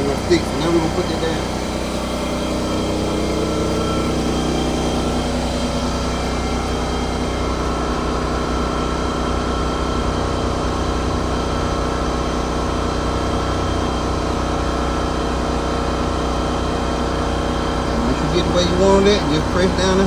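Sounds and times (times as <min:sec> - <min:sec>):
machine humming: 0:00.0 - 0:20.0.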